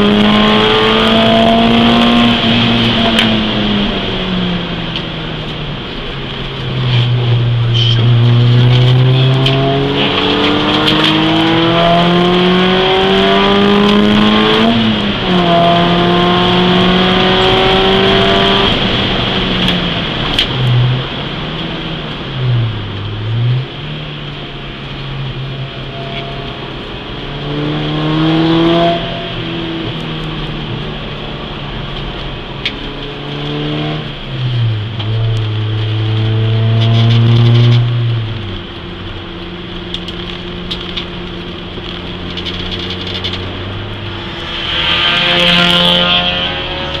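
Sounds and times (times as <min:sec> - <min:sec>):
car engine revving: 0:00.0 - 0:47.0
tyre and road noise: 0:00.0 - 0:47.0.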